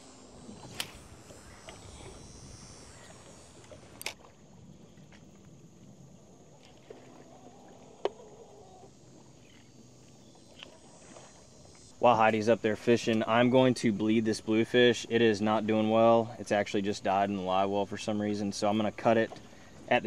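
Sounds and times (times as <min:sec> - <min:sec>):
water and wind around a boat: 0:00.0 - 0:20.0.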